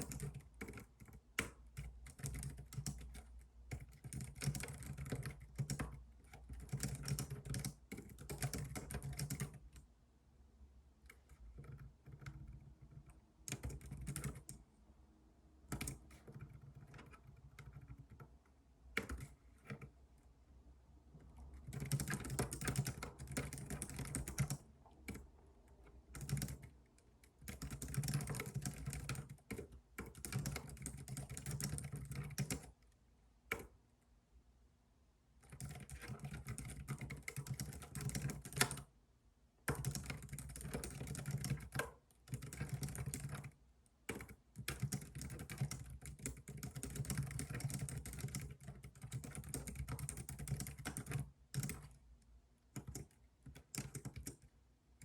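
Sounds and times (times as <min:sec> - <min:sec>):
typing on computer keyboard: 0:00.0 - 0:09.9, 0:11.0 - 0:14.6, 0:15.6 - 0:20.0, 0:21.2 - 0:33.8, 0:35.4 - 0:38.9, 0:39.6 - 0:52.0, 0:52.7 - 0:55.0.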